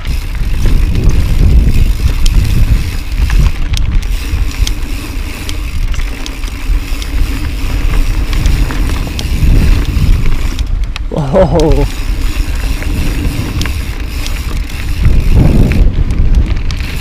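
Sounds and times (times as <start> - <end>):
bike clicks and rattles: 0.0 - 17.0
bike tyres rolling on dirt: 0.0 - 17.0
wind buffeting microphone: 0.0 - 17.0.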